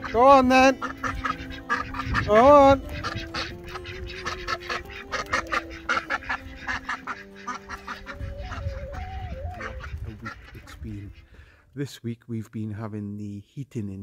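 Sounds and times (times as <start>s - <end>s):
ducks quacking: 0.0s - 11.7s.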